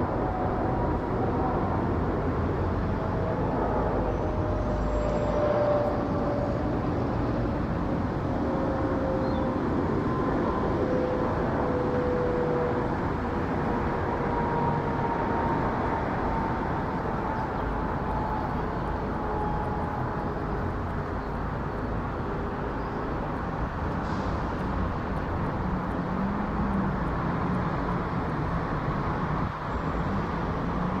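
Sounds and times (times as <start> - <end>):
distant jet engine roar: 0.0 - 31.0
faint jet engine whine: 0.0 - 31.0.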